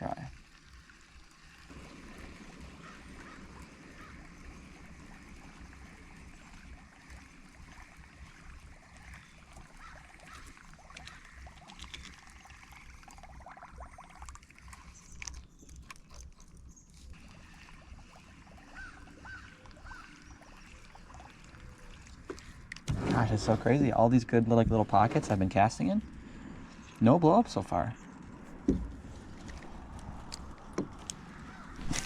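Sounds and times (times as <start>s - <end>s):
water lapping around kayak: 0.0s - 32.0s.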